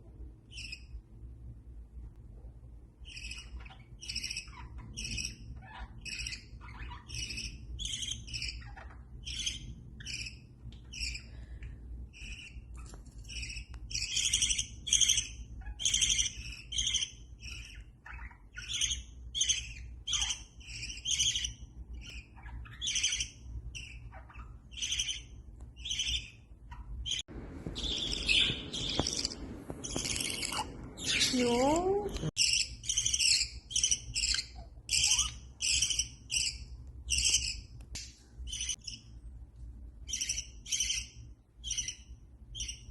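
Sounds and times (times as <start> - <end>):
budgerigar chirping: 3.0 - 11.3, 12.2 - 27.2, 27.8 - 31.8, 32.4 - 37.7, 38.5 - 39.1, 40.0 - 42.9.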